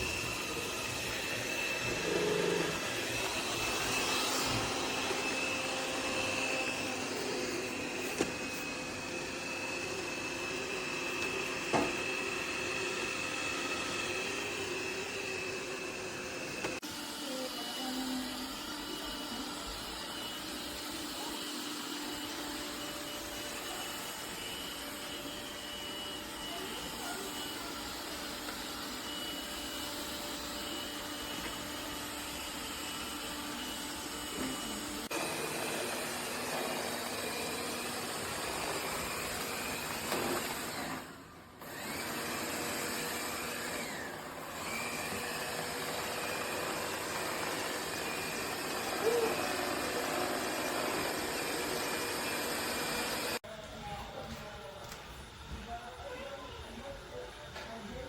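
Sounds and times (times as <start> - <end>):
robot vacuum humming: 0.0 - 58.0.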